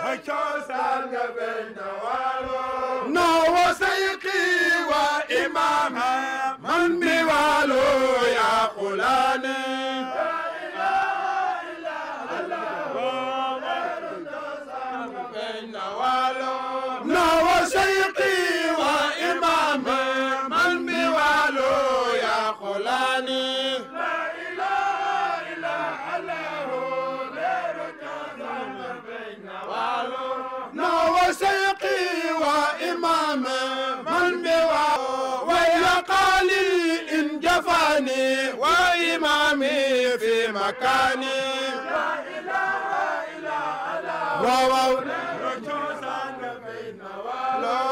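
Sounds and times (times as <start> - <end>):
men chanting: 0.0 - 47.9.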